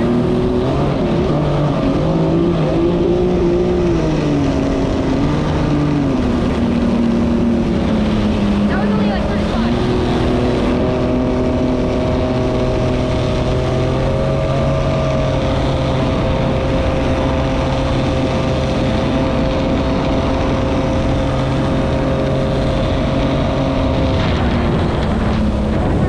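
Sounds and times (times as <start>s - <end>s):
jet ski engine: 0.0s - 26.0s.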